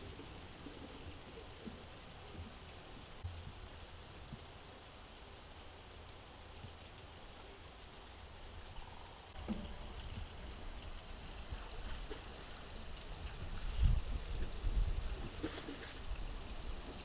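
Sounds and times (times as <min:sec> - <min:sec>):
low wind-like rumble: 0:00.0 - 0:17.0.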